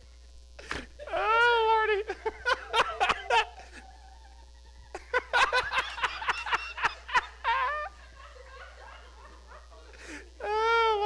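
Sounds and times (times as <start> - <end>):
person laughing: 0.6 - 11.0.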